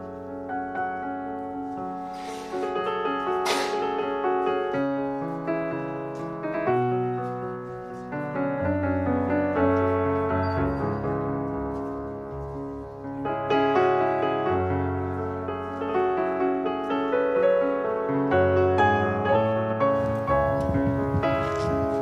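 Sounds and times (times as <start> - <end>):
background piano music: 0.0 - 22.0.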